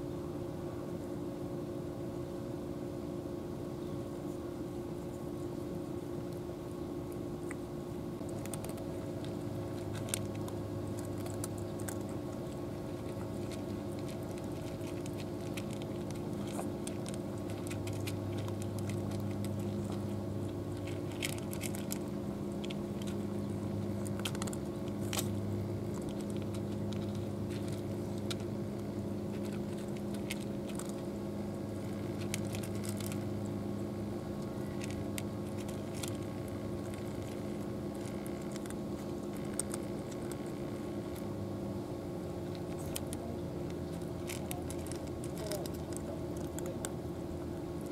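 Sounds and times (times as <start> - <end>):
low mechanical hum: 0.0 - 47.9
cats crunching dry kibble: 8.2 - 47.9.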